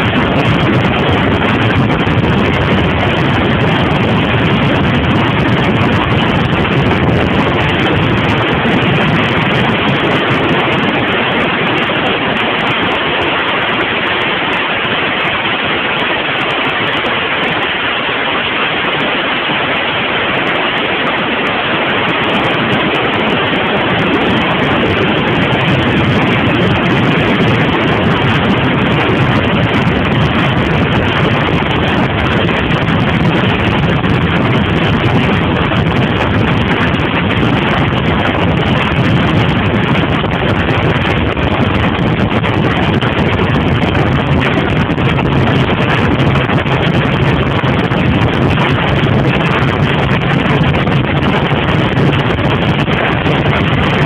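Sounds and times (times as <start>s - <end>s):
wind rushing on microphone: 0.0s - 54.0s.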